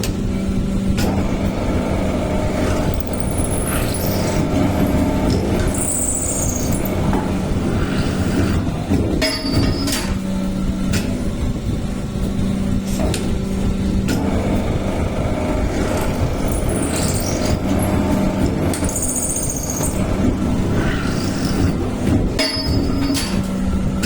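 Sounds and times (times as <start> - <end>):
drilling machine hum and rumble: 0.0 - 24.0.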